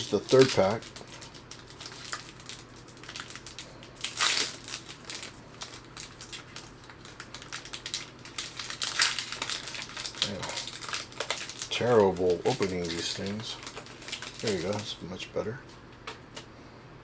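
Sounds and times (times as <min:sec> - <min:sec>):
wrapper crinkling: 0:00.0 - 0:16.0.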